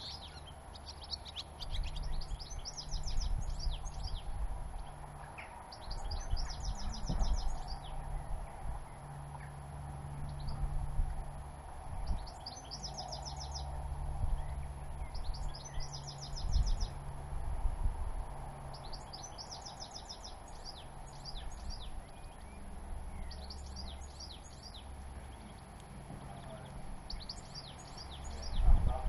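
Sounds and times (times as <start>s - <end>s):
finches twittering trills: 0.0s - 29.0s
steady low rumble: 0.0s - 29.0s.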